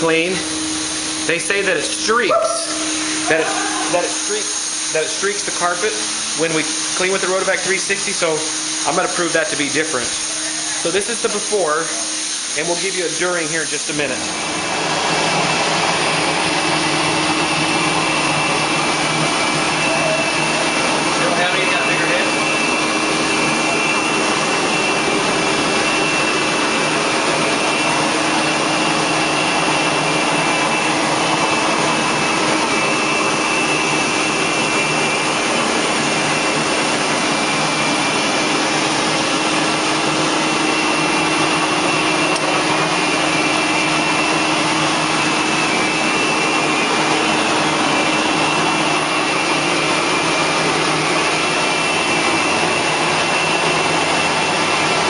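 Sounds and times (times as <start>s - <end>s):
extraction vacuum running: 0.0s - 55.0s.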